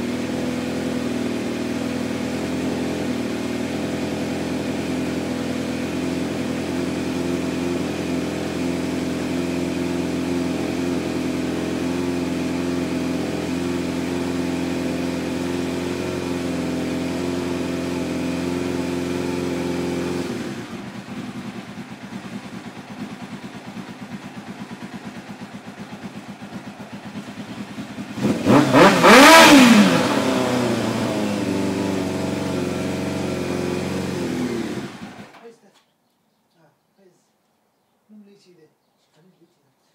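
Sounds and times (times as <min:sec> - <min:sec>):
motorcycle engine idling: 0:00.0 - 0:35.4.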